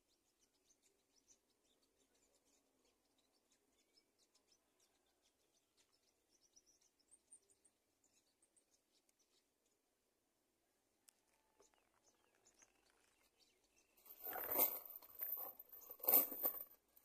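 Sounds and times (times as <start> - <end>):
faint high-pitched bird chirps: 0.0 - 9.9, 11.0 - 16.2.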